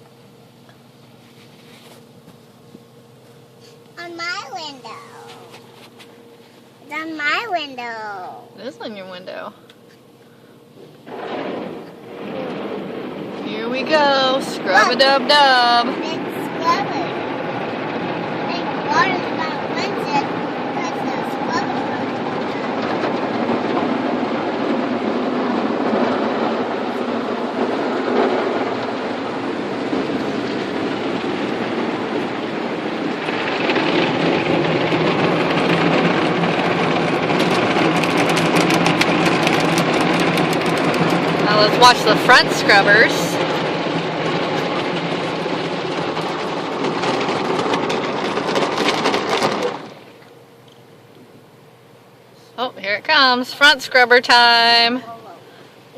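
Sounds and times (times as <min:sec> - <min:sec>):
car wash brushes and water spray: 0:00.0 - 0:54.4.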